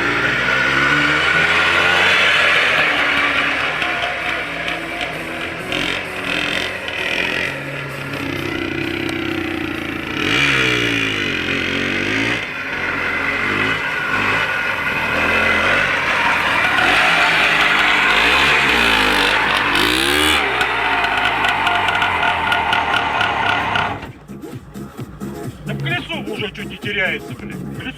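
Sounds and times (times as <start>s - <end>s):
two-stroke motorcycle engine revving: 0.0s - 27.9s.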